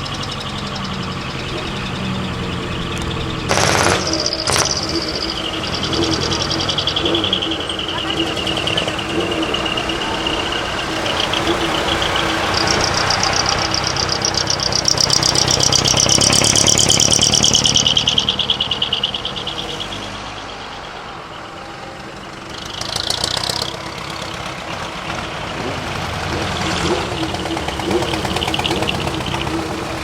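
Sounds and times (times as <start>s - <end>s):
diesel truck driving past: 0.0s - 30.0s.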